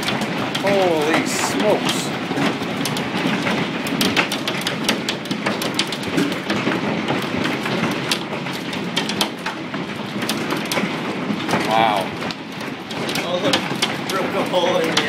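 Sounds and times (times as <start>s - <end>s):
hailstones hitting hard surfaces: 0.0s - 15.0s
rushing hailstorm noise: 0.0s - 15.0s.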